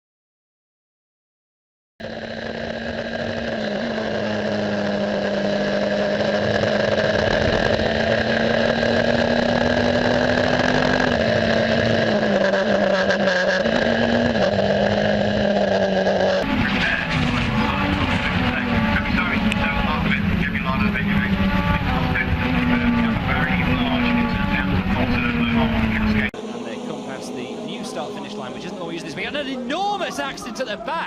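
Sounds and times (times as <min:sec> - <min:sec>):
racing car engine droning: 0:02.0 - 0:31.0.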